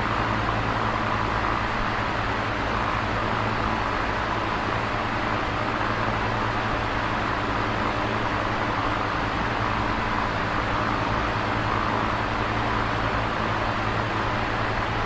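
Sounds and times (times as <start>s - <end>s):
electric fan air rush: 0.0s - 15.0s.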